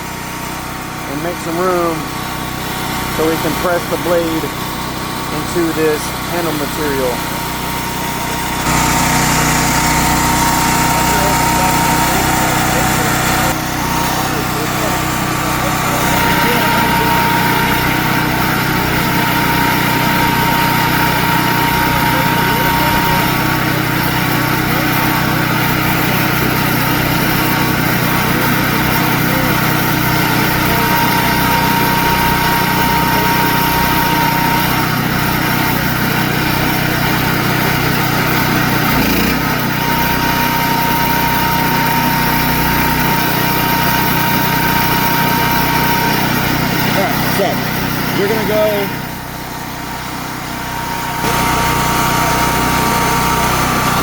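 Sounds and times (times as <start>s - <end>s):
electric drill drilling wood: 0.0s - 54.0s.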